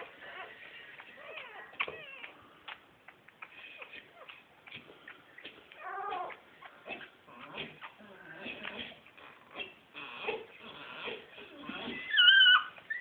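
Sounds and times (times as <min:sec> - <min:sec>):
puppy whimpering and squealing: 0:00.0 - 0:02.4, 0:03.4 - 0:13.0.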